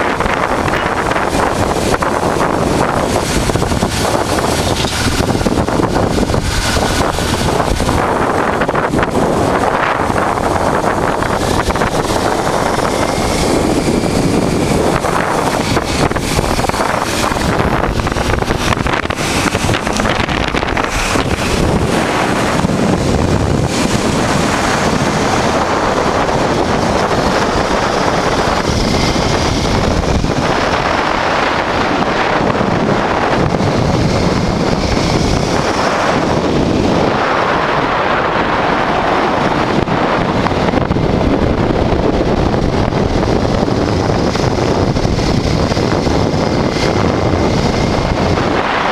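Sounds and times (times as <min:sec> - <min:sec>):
motorcycle engine cruising: 0:00.0 - 0:48.9
wind buffeting microphone: 0:00.0 - 0:48.9.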